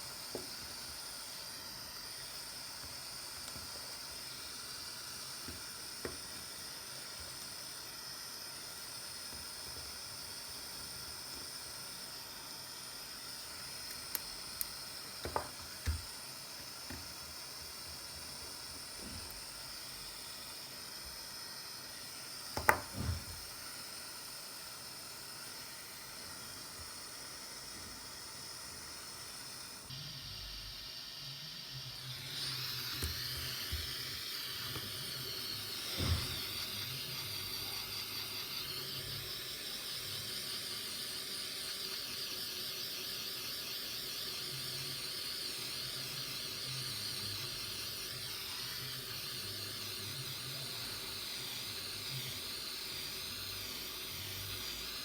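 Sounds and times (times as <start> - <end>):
steady airy hiss: 0.0 - 55.0.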